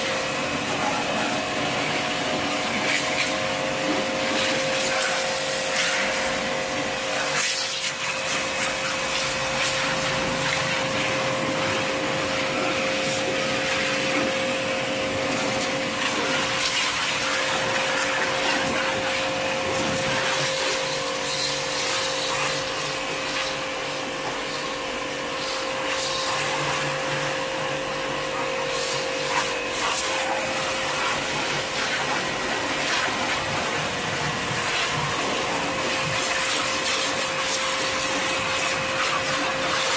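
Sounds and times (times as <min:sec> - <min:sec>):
pressure washer whining: 0:00.0 - 0:39.9
water jet hissing on car: 0:00.0 - 0:39.9.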